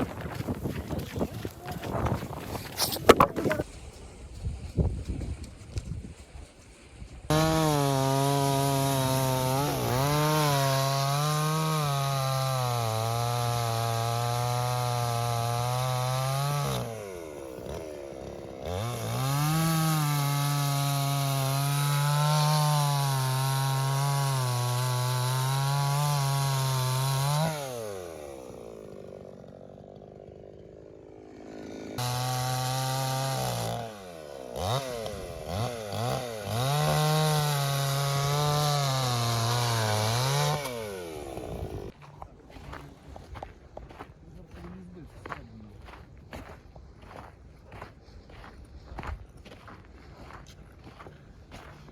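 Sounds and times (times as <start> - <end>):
chainsaw sawing wood: 0.0 - 3.8, 7.3 - 48.5.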